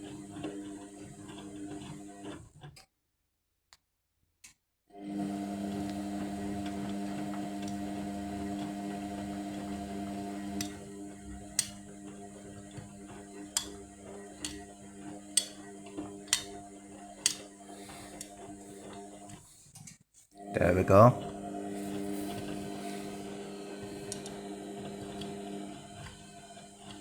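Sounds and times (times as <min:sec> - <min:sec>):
washing machine motor hum: 0:00.0 - 0:02.5, 0:05.0 - 0:19.5, 0:20.4 - 0:27.0.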